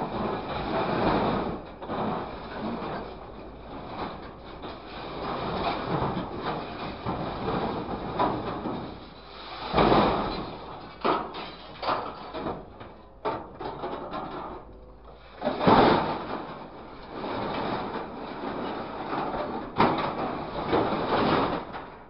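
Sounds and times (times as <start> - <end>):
scrap metal clattering and scraping: 0.0 - 22.0.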